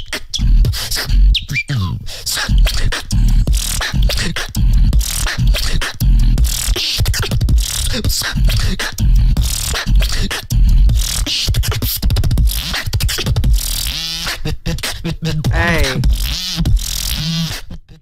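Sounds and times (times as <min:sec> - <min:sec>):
beatboxing bass kicks: 0:00.0 - 0:01.4, 0:02.4 - 0:18.0
beatboxed snare and hi-hat: 0:00.0 - 0:18.0.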